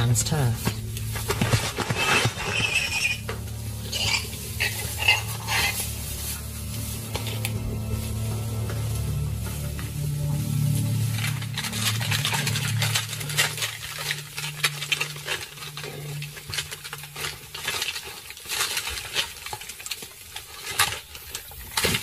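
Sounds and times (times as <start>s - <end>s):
low steady drone: 0.0s - 22.0s.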